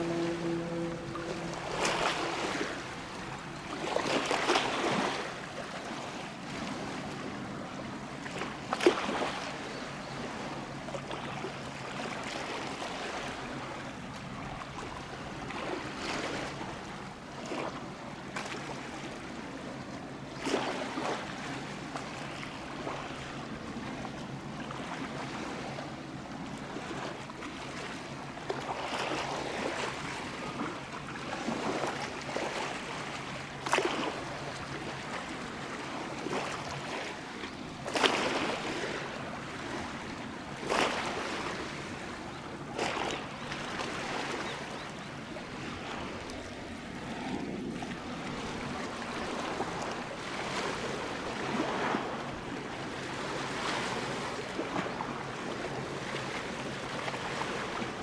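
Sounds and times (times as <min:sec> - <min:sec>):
sea water: 0:00.0 - 0:58.0
wind: 0:00.0 - 0:58.0.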